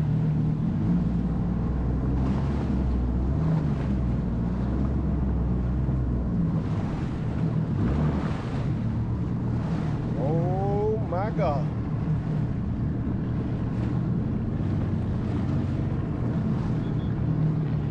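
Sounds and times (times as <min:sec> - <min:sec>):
jet ski engine rumbling: 0:00.0 - 0:17.9
water sloshing: 0:00.0 - 0:17.9
wind buffeting microphone: 0:00.0 - 0:17.9.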